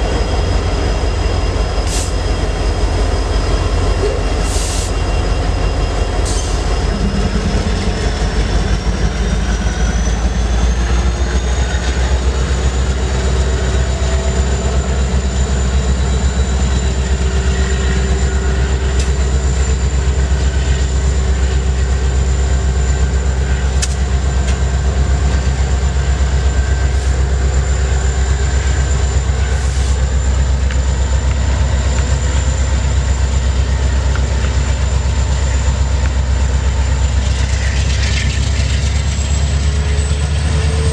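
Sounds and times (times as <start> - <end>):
freight train rumbling past: 0.0 - 40.9.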